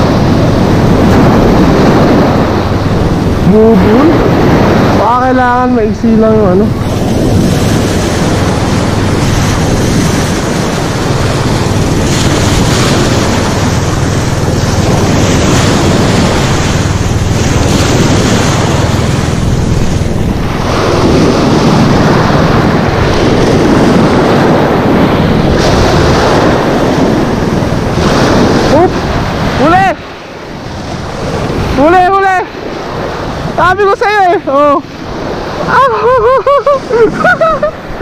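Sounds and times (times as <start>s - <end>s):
surf breaking and washing: 0.0s - 38.0s
wind rumbling on microphone: 0.0s - 38.0s.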